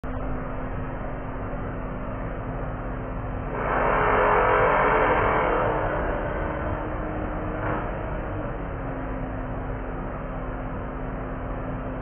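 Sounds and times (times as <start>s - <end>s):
freight train rumbling over bridge: 0.2s - 11.9s.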